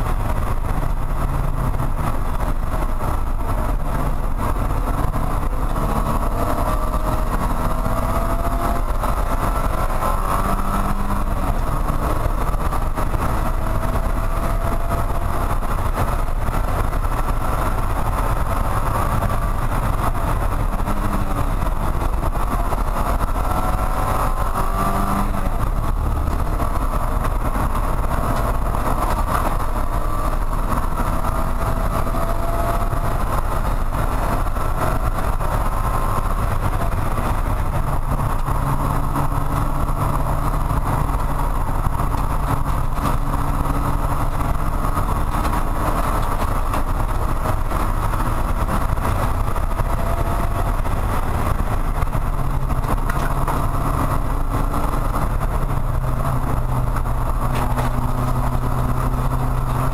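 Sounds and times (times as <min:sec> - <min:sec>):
race car engine under load: 0:00.0 - 0:59.9.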